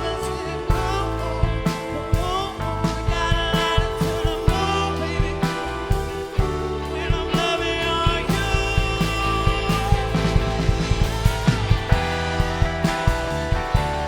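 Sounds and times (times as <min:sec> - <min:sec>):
heavy bass: 0:00.0 - 0:14.0
live funk band playing: 0:00.0 - 0:14.0
drum beat: 0:00.7 - 0:14.0.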